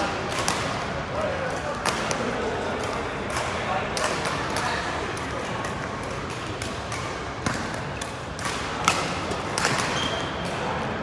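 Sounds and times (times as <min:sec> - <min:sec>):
badminton rackets hitting shuttlecocks: 0:00.0 - 0:00.9, 0:01.6 - 0:10.8
sports hall background noise: 0:00.0 - 0:11.0.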